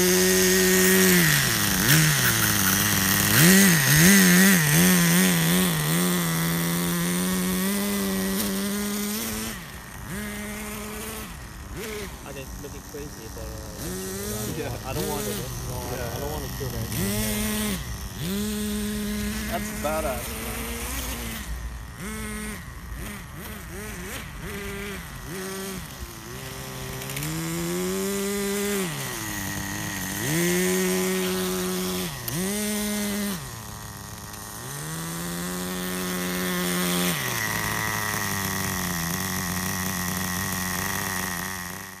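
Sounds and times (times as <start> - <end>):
small two-stroke engine revving: 0.0 - 42.0.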